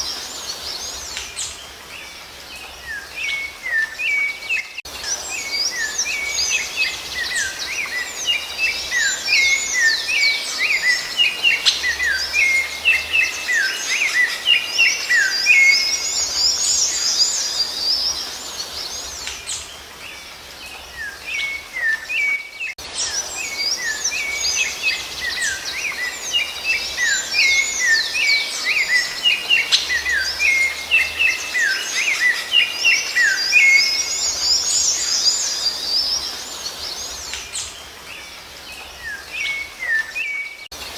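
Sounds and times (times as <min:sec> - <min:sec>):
thrush singing whistled notes: 0:00.0 - 0:40.9.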